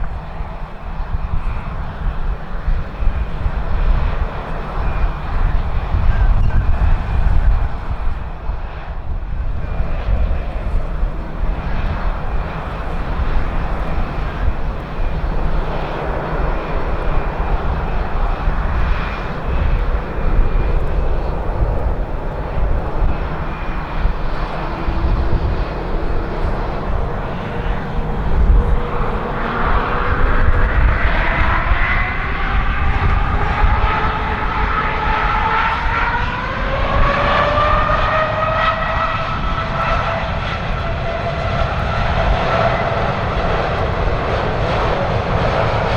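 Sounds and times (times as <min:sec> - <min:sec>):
jet engine whine rising: 0:00.0 - 0:45.9
jet engines rumbling: 0:00.0 - 0:45.9.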